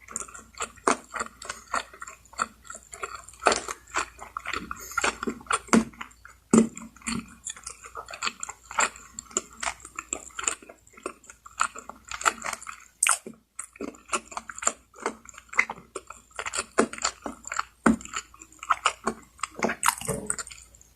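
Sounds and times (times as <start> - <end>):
person chewing: 0.0 - 20.9.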